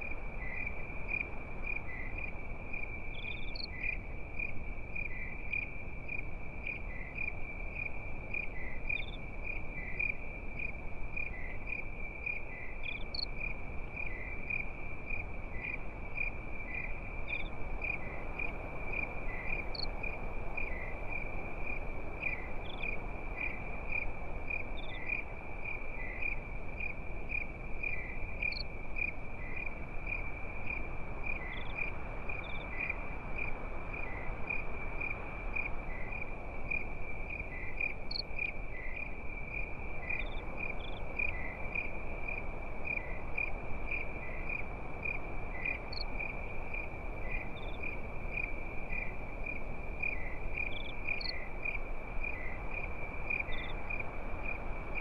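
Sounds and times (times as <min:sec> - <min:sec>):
crickets chirping: 0:00.0 - 0:55.0
low background hiss: 0:00.0 - 0:55.0.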